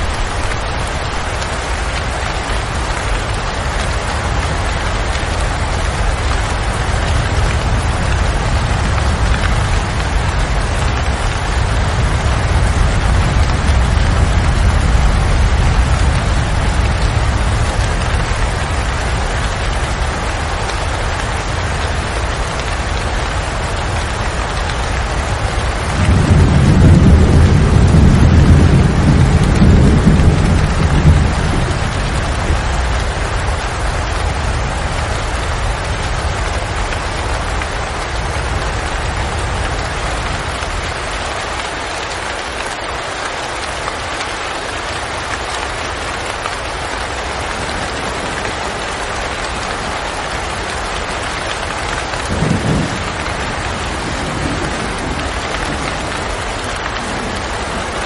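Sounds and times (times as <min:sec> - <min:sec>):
thunder rumbling: 0:00.0 - 0:41.6, 0:46.6 - 0:58.0
steady rain hissing: 0:00.0 - 0:58.0.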